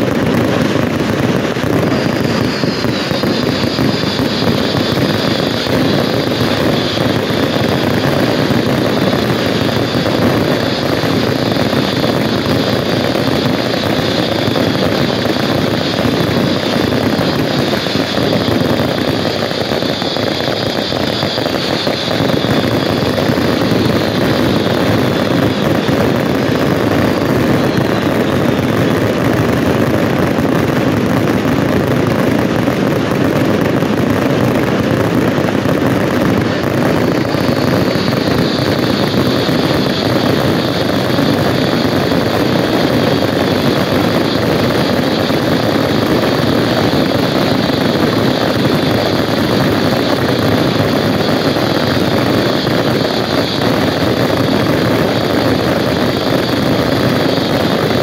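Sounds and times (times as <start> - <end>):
fireworks barrage roar: 0.0 - 58.0
fireworks shells bursting: 0.0 - 58.0.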